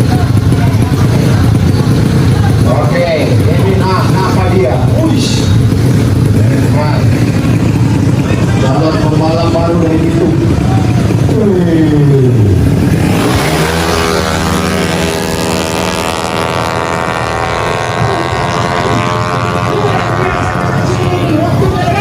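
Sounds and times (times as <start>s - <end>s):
scooter engine revving high: 0.0s - 22.0s.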